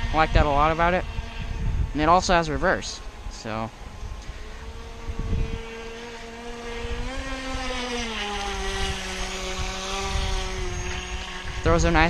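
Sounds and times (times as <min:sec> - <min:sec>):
rc boat electric motor whining: 0:00.0 - 0:12.0.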